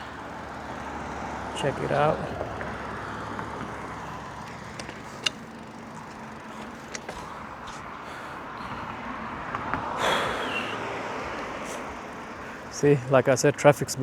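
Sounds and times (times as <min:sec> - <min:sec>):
car passing: 0:00.0 - 0:14.0
road traffic: 0:00.0 - 0:14.0.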